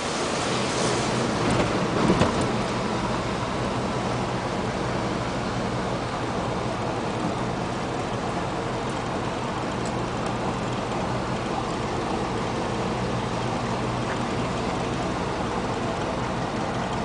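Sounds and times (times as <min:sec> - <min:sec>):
truck engine drone: 0:00.0 - 0:17.0
tyre and road noise: 0:00.0 - 0:17.0.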